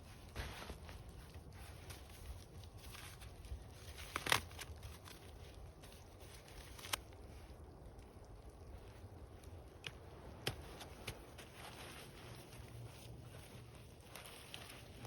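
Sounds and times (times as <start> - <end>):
rustling and crunching handling: 0.0 - 15.0.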